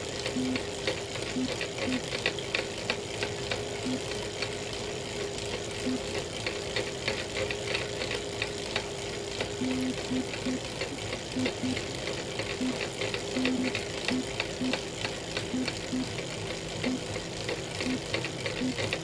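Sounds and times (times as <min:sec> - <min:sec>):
bike trainer whining: 0:00.0 - 0:19.0
rapid irregular crackling clicks: 0:00.0 - 0:19.0.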